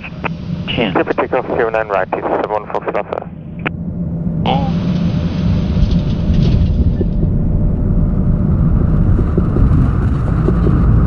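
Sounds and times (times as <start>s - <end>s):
aircraft wheels and engines rumbling: 0.0s - 11.0s.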